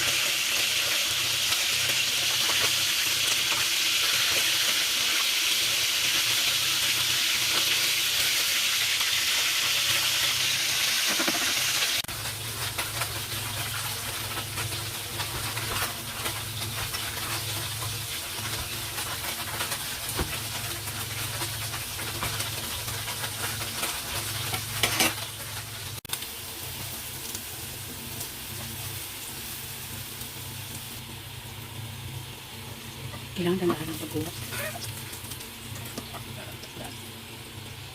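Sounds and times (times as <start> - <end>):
food sizzling in a pan: 0.0 - 37.9.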